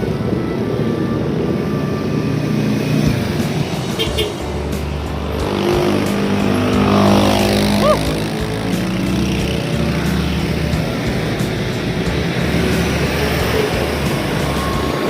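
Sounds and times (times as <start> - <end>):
road and wind noise: 0.0 - 15.0
vehicle engine passing: 0.0 - 15.0.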